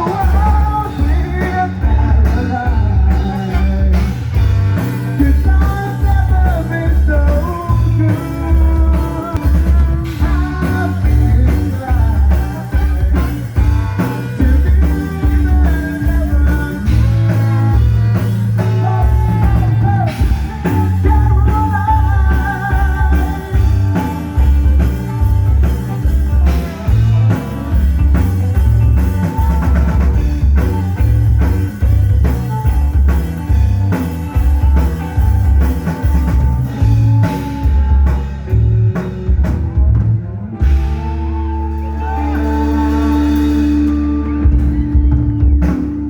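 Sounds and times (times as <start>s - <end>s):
rock band with singing: 0.0s - 46.0s.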